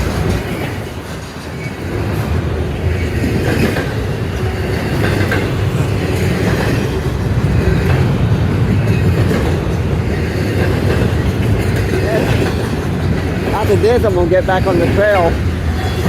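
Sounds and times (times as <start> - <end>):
freight train cars rumbling: 0.0 - 16.0
wheels clacking over rail joints: 0.0 - 16.0.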